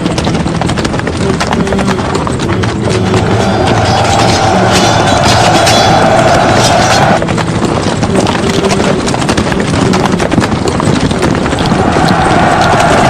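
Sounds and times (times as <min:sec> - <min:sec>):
horses' hooves clattering: 0:00.0 - 0:13.0.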